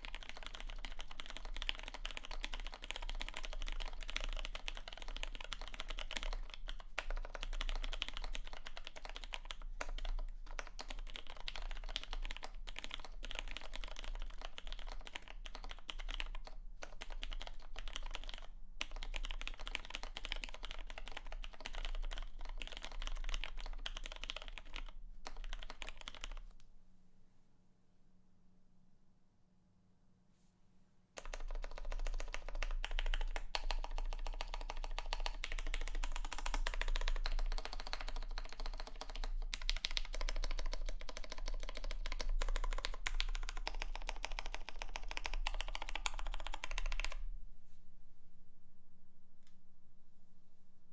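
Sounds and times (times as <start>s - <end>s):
mechanical keyboard typing: 0.0s - 26.5s, 31.2s - 47.2s.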